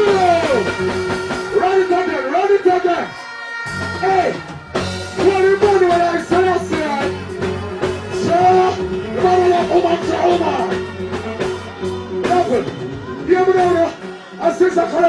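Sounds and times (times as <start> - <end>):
live reggae band: 0.0 - 15.0.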